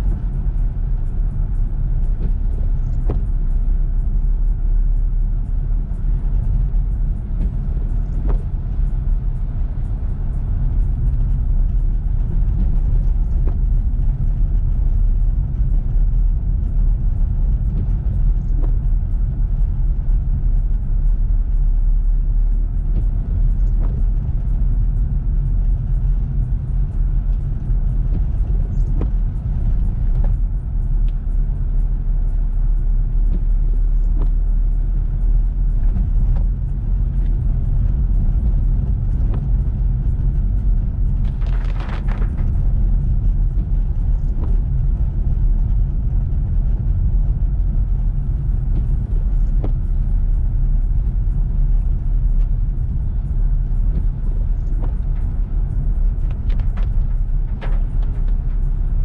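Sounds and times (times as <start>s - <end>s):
car road and engine rumble: 0.0s - 59.0s
rain ticking on car: 0.1s - 59.0s.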